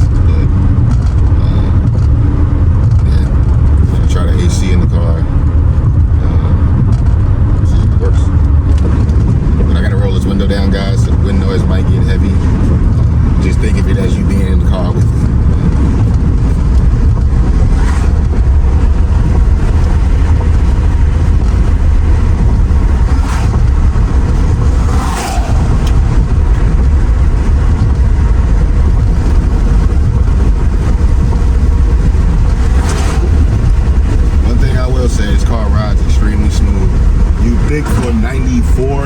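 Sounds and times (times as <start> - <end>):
car road noise: 0.0 - 39.0
wind rushing through car window: 0.0 - 39.0.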